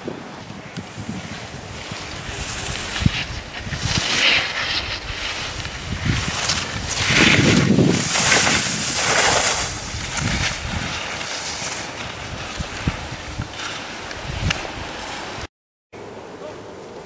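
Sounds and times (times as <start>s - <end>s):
skis scraping over snow: 0.0s - 15.5s
wind on microphone: 0.0s - 15.5s.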